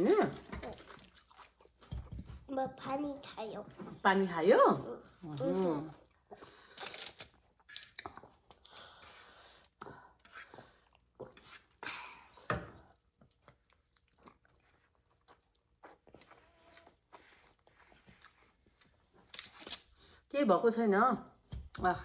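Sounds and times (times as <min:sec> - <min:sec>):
people chewing food: 0:00.0 - 0:02.8, 0:04.8 - 0:20.2.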